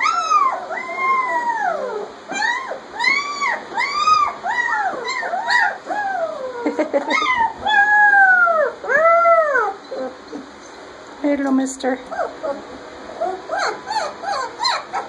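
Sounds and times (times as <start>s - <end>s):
puppies whining and crying: 0.0s - 10.9s, 12.0s - 15.0s.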